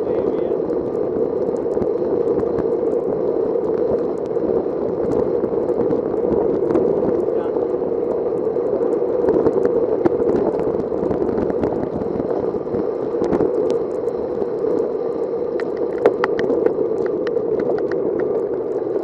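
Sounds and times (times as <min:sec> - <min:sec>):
bicycle tyres on wet road: 0:00.0 - 0:19.0.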